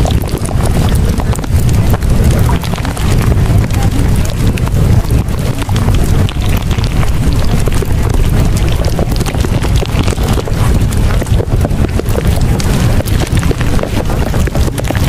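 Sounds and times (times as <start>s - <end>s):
loud rushing noise with low rumble: 0.0s - 15.0s
small crackles: 0.0s - 15.0s.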